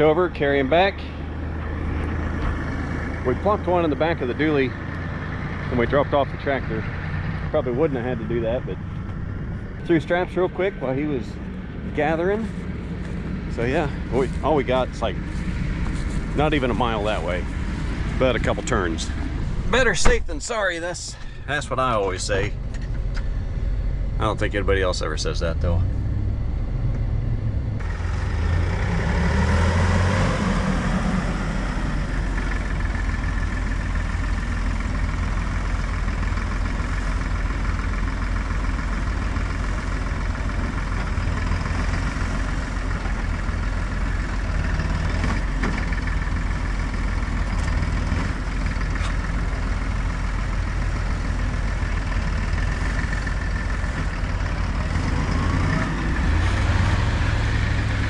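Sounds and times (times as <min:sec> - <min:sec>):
road noise: 0:00.0 - 0:58.0
truck engine rumble: 0:00.0 - 0:58.0.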